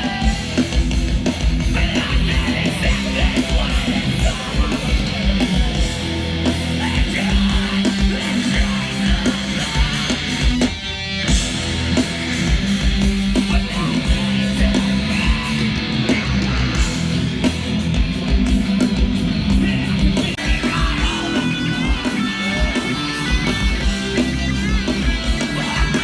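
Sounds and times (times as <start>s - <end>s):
distorted electric guitars: 0.0s - 26.0s
pounding drums: 0.0s - 26.0s.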